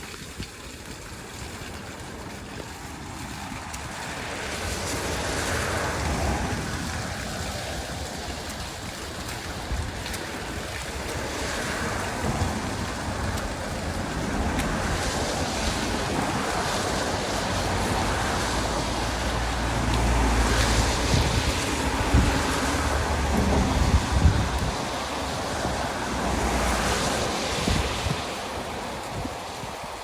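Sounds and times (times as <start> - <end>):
floodwater rushing down a drain: 0.0 - 30.0
wind buffeting microphone: 0.0 - 30.0.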